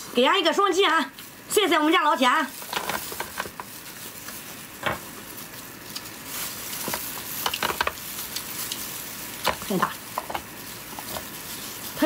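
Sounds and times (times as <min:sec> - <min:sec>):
plastic gloves rustling: 0:00.0 - 0:12.0.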